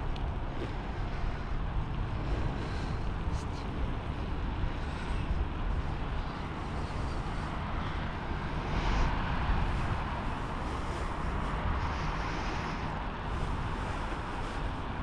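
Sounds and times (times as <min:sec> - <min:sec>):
low rumble of bicycle ride: 0:00.0 - 0:15.0
wind rushing over microphone: 0:00.0 - 0:15.0.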